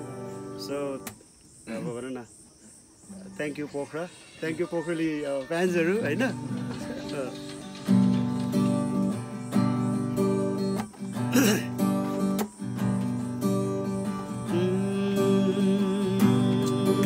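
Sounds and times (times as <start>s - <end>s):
acoustic guitar strumming: 0.0s - 2.0s, 3.3s - 17.0s.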